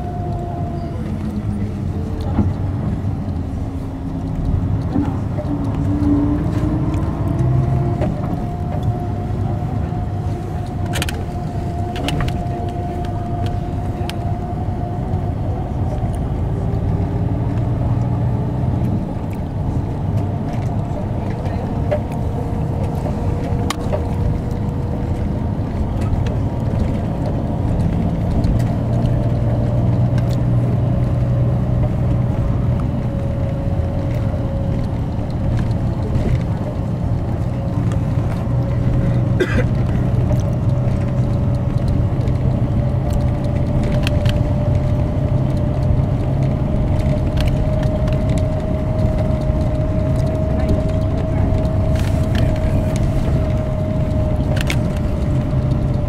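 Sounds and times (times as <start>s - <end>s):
bus engine and road drone: 0.0s - 56.0s.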